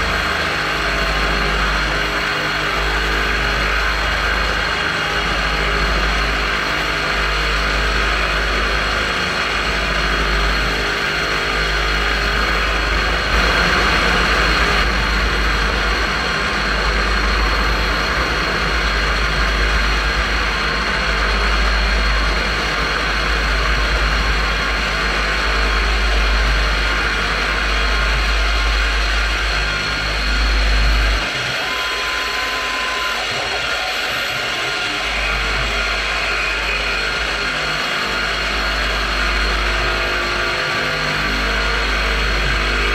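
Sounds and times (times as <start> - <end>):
milling machine spindle cutting metal: 0.0 - 42.9.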